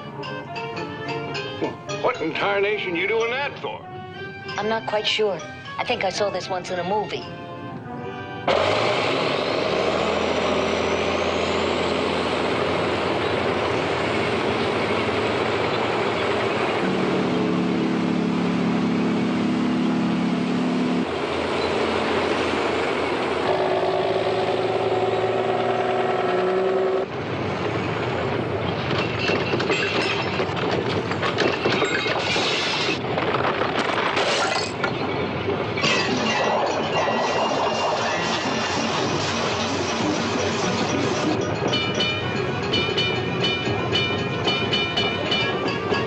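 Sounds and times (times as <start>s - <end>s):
heavy machinery engines rumbling: 0.0s - 46.0s.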